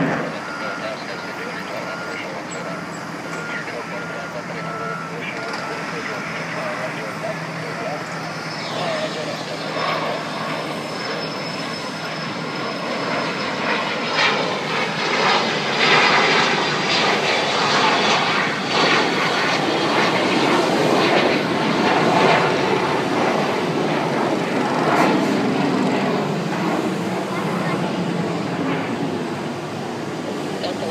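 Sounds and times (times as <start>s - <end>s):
jet engines roaring at takeoff: 0.0s - 30.9s.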